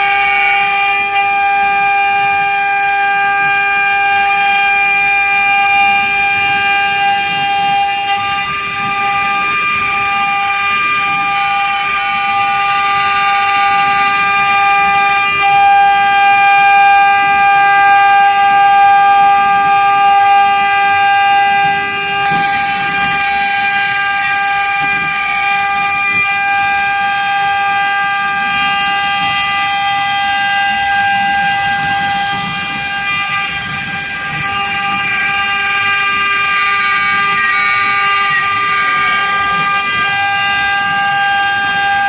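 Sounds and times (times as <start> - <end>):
engraving machine whine: 0.0 - 42.0.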